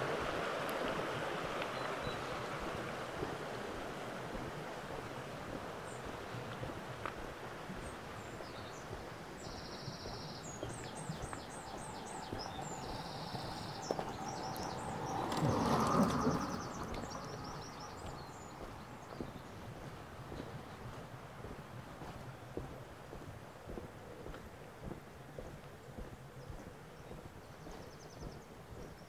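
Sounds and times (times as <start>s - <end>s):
steady outdoor hiss: 0.0s - 29.0s
songbirds singing: 1.6s - 29.0s.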